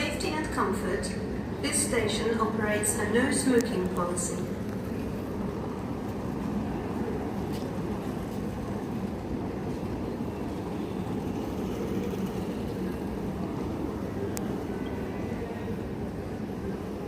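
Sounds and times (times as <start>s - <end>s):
railway station low rumble: 0.0s - 17.0s.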